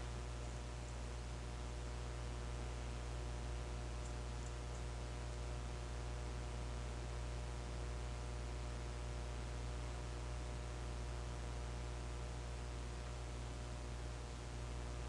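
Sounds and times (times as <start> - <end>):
microphone hum and hiss: 0.0 - 15.0.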